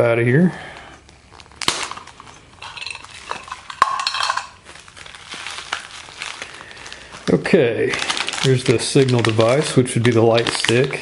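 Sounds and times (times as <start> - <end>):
plastic rattling and rustling: 1.3 - 11.0.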